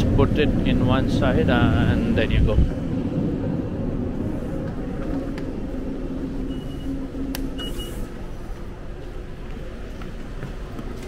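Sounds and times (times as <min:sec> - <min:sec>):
station concourse rumble: 0:00.0 - 0:11.0.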